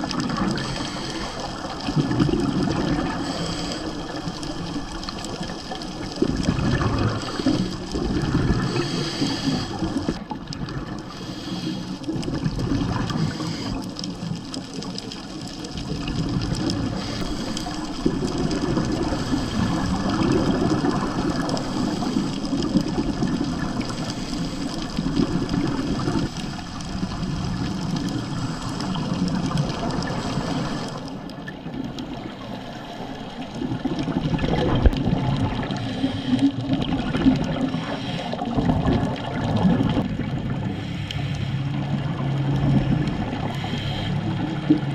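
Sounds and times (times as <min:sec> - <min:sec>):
underwater breath bubbling: 0:00.0 - 0:44.9.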